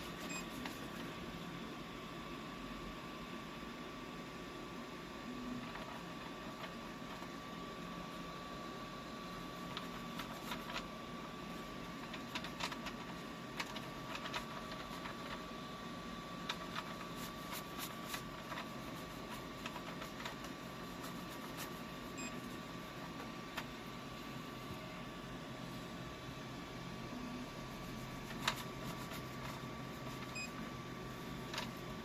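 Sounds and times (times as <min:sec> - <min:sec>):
steady hum with high whine: 0:00.0 - 0:32.0.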